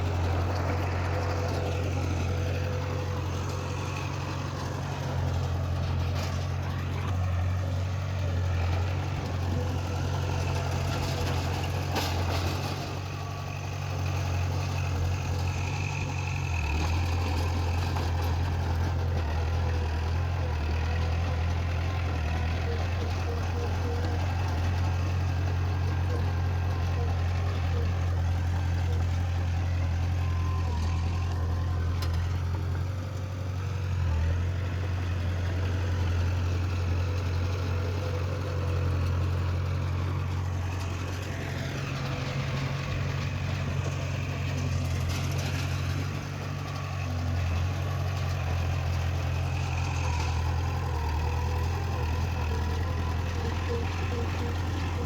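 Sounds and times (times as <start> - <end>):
heavy machinery diesel engine humming: 0.0 - 55.0.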